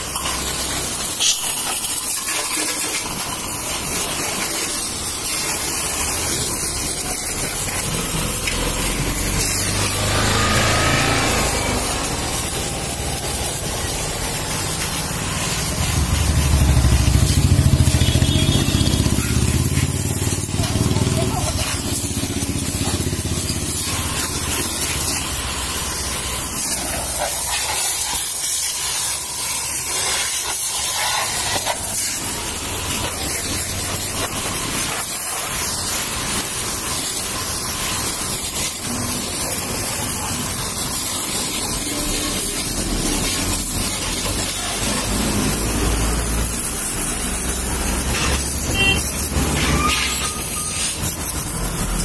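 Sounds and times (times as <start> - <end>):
pressure washer spraying: 0.0 - 52.0.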